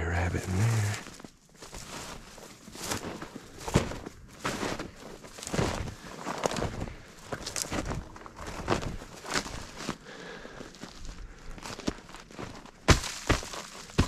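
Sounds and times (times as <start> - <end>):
footsteps through undergrowth: 0.2 - 14.0.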